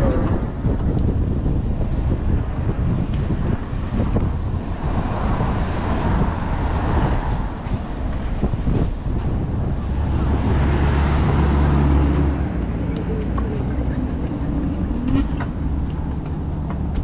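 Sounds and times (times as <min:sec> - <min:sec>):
large vehicle engine humming: 0:00.0 - 0:17.0
road traffic: 0:00.0 - 0:17.0
wind rumble on microphone: 0:00.0 - 0:17.0.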